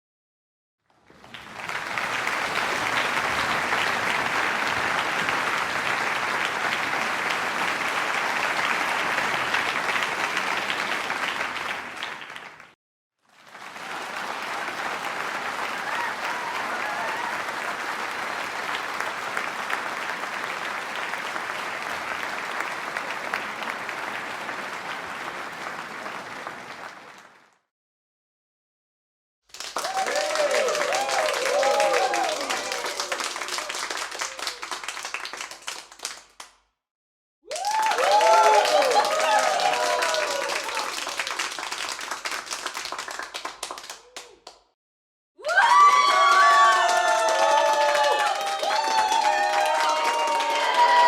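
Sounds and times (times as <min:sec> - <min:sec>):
crowd applauding: 0:01.0 - 0:27.6, 0:29.5 - 0:36.6, 0:37.5 - 0:44.7, 0:45.4 - 0:51.0.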